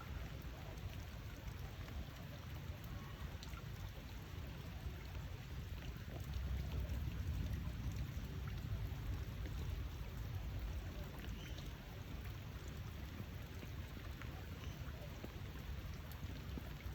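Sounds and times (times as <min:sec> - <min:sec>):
light drips and taps: 0:00.0 - 0:16.9
steady rain: 0:00.0 - 0:16.9.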